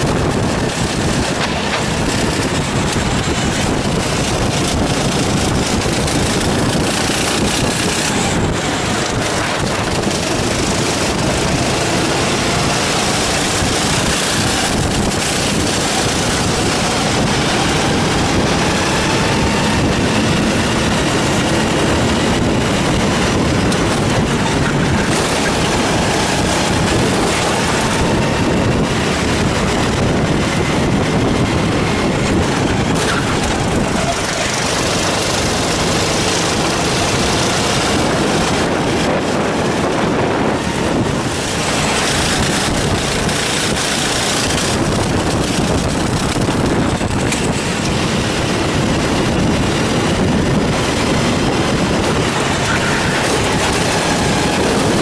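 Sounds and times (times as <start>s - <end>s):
go-kart engine running hard: 0.0s - 55.0s
rush of wind noise: 0.0s - 55.0s.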